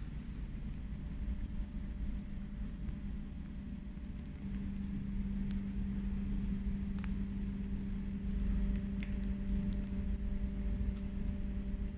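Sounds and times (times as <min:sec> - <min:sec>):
low rumble: 0:00.0 - 0:11.9
mechanical hum: 0:00.0 - 0:11.9
faint ticks: 0:00.2 - 0:11.9.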